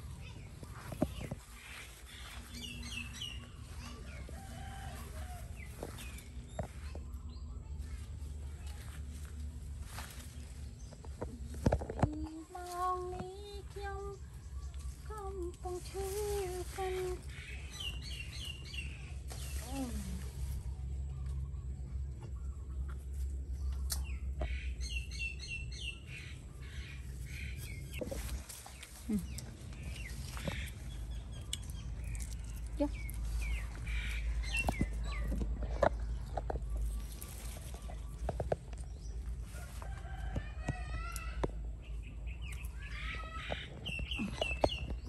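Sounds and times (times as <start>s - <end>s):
steady low rumble: 0.0s - 45.0s.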